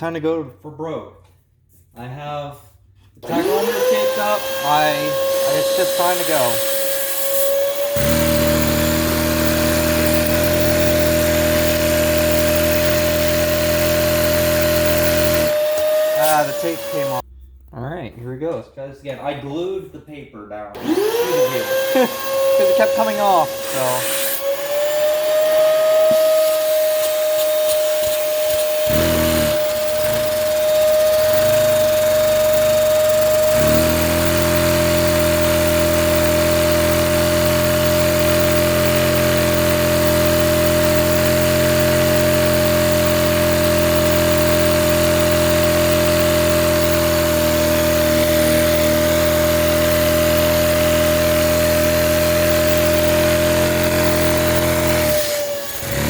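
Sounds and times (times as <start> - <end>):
toy engine humming: 3.2 - 17.2, 20.8 - 56.0
vacuum cleaner high whine: 3.2 - 17.2, 20.8 - 56.0.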